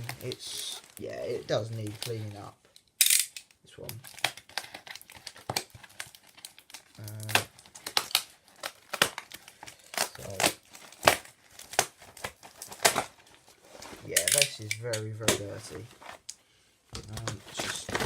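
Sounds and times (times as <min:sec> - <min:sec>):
packaging crinkling and rustling: 0:00.0 - 0:02.8, 0:03.4 - 0:16.3, 0:17.0 - 0:18.0.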